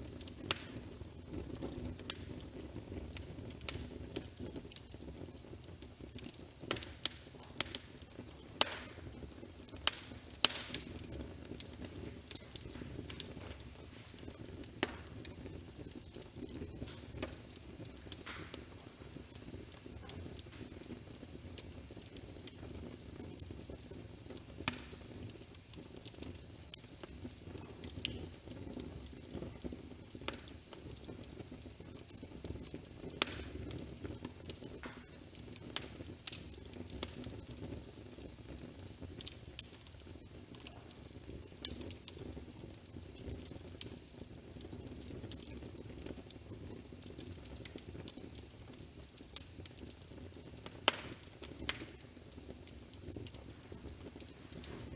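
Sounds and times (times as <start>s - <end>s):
fire snaps and pops: 0.0s - 54.9s
wood fire crackling: 0.0s - 54.9s.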